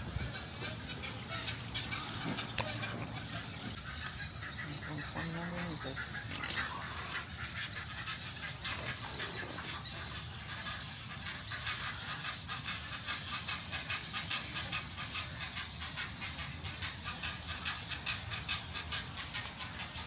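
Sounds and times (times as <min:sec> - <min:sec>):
bird chicks chattering and begging: 0:00.0 - 0:20.0.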